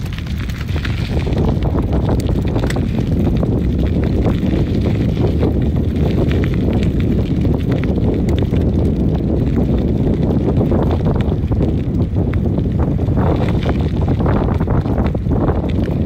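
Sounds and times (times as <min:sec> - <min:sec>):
tyres rumbling on asphalt: 0:00.0 - 0:16.0
wind buffeting microphone: 0:00.0 - 0:16.0.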